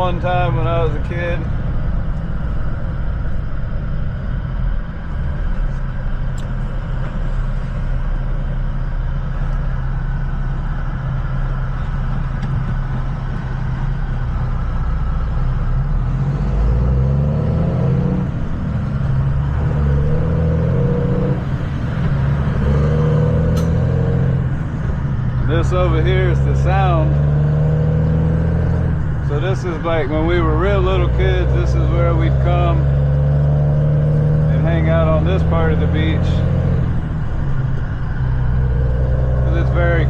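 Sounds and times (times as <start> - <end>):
road noise: 0.0 - 40.0
vehicle engine: 0.0 - 40.0.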